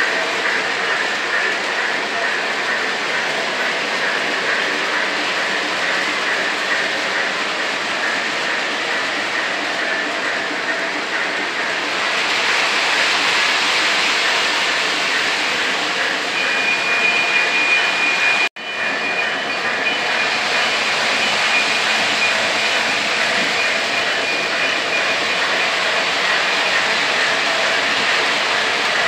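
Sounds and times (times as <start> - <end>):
model train rolling rumble: 0.0 - 29.0.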